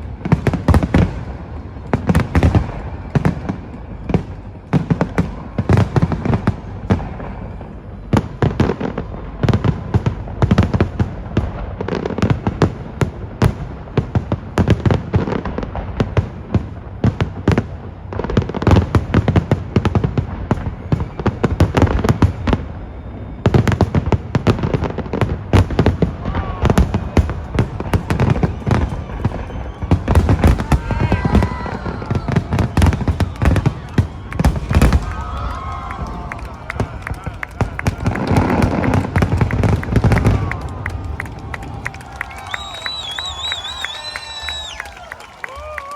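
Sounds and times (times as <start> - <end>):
fireworks bursts and crackles: 0.0 - 45.9.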